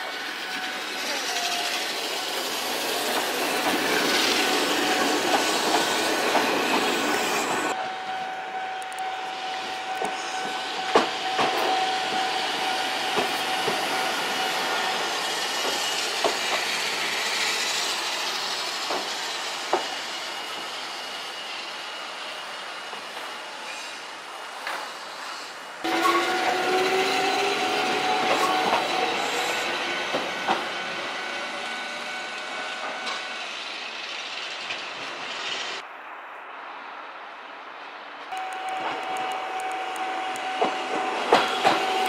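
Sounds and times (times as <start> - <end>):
train rumbling on track: 0.0 - 35.9, 37.0 - 42.0.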